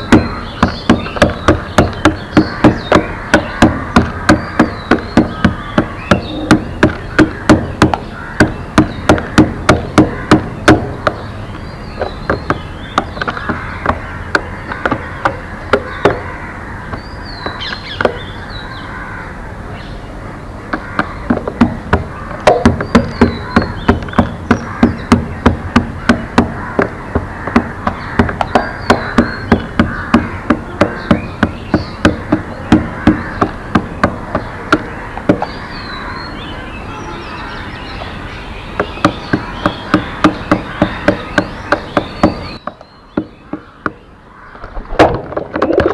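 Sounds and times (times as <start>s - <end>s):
sharp rhythmic knocking: 0.0s - 18.4s, 20.7s - 36.2s, 38.7s - 44.1s
small birds chirping: 0.0s - 45.0s.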